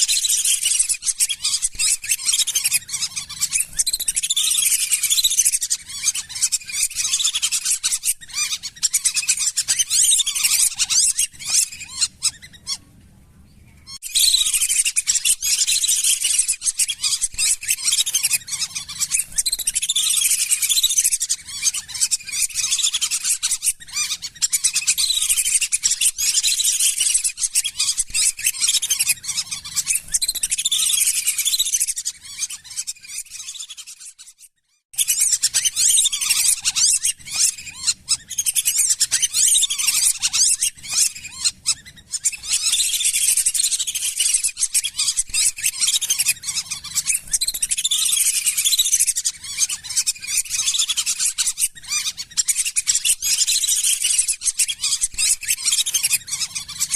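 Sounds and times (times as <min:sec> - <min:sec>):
ducks whistling chirps: 0:00.0 - 0:12.8, 0:13.8 - 0:56.9.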